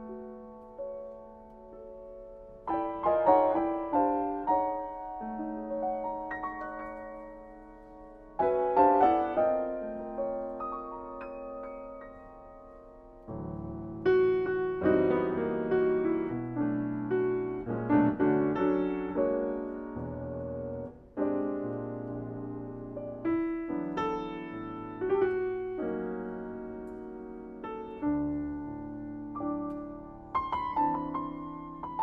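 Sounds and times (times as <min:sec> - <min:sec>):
solo jazz piano: 0:00.0 - 0:32.0.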